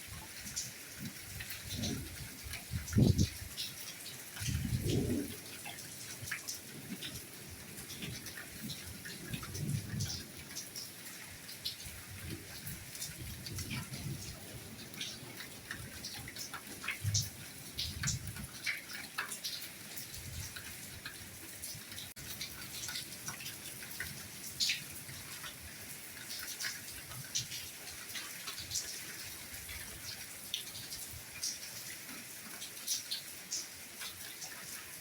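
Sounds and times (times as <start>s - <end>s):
soft rain with dripping: 0.0s - 35.0s.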